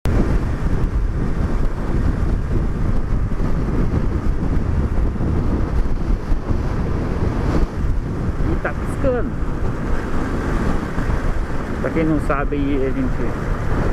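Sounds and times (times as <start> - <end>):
wind buffeting microphone: 0.0 - 13.9
motorcycle running: 0.1 - 13.9.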